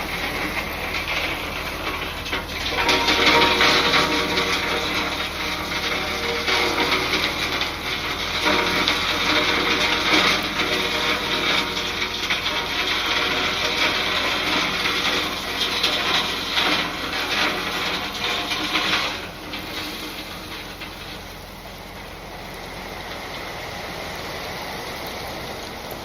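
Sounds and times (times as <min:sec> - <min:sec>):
material sliding out of dump truck: 0:00.0 - 0:26.0.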